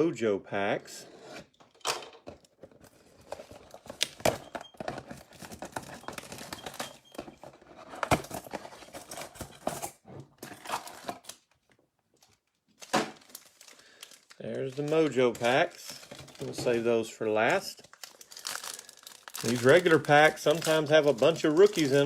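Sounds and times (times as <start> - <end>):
foil packs crinkling and tearing: 2.9 - 11.5, 12.7 - 22.0.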